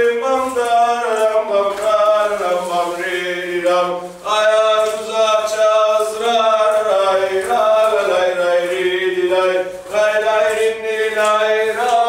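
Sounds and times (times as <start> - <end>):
folk dance music over drone: 0.0 - 12.0.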